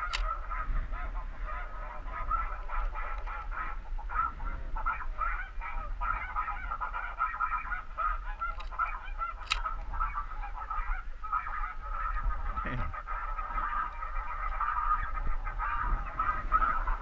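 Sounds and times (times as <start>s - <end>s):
flock of geese honking: 0.0s - 17.0s.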